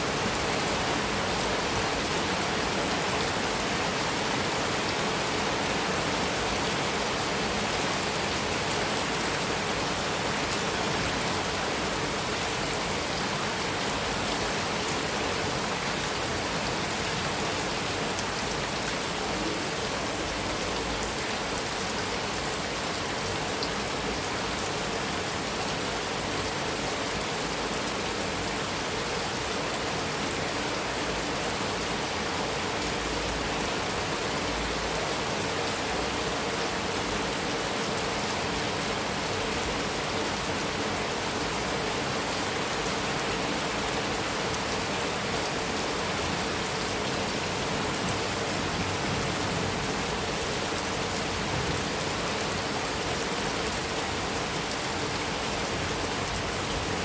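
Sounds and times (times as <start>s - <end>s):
heavy rain on metal roof: 0.0s - 57.0s.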